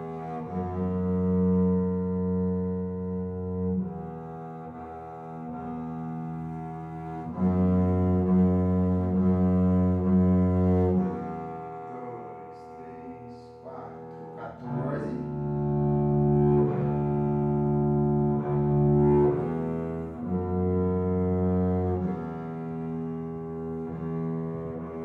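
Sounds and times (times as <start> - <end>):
bowed double bass notes: 0.0 - 25.0.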